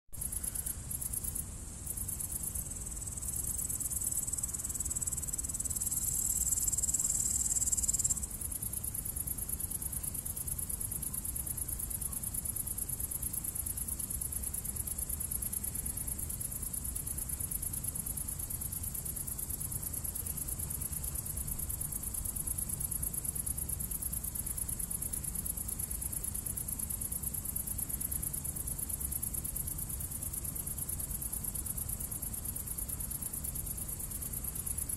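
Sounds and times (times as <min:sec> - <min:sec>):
insects chirring: 0:00.2 - 0:34.9.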